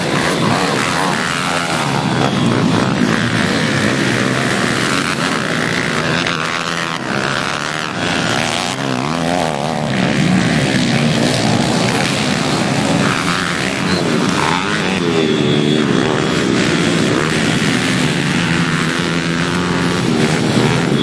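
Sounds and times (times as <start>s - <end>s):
motorbike engines revving: 0.0s - 21.0s.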